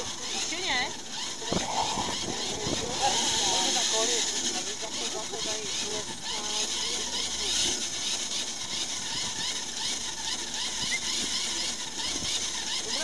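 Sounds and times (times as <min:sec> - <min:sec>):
machine reeling line ticking: 0:00.0 - 0:13.0.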